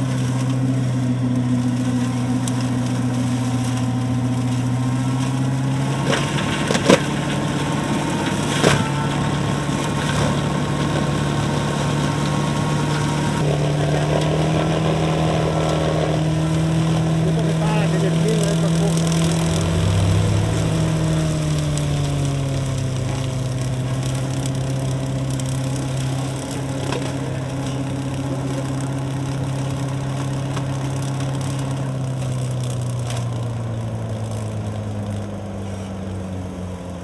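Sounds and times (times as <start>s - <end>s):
flail mulcher shredding grass: 0.0s - 37.0s
tractor engine running under load: 0.0s - 37.0s.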